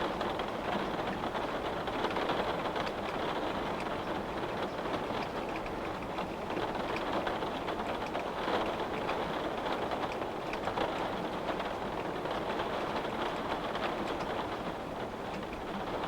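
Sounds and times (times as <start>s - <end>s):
rain on a window: 0.0s - 16.0s.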